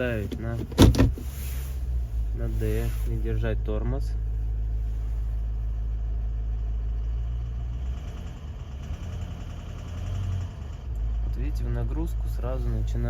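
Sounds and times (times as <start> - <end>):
diesel engine idling under load: 0.0 - 13.0.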